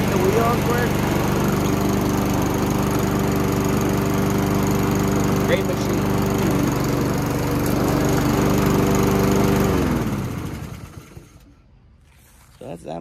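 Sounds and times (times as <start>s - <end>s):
lawn mower engine running: 0.0s - 11.6s.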